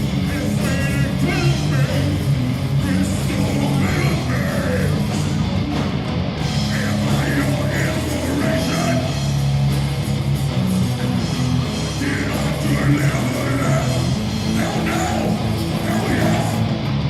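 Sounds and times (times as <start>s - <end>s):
electric guitar: 0.0s - 17.0s
live rock band playing: 0.0s - 17.0s.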